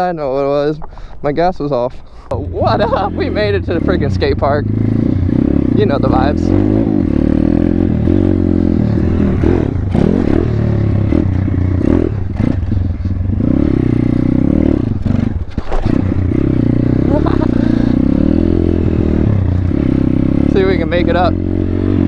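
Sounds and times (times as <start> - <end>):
motorbike engine revving: 2.4 - 22.0.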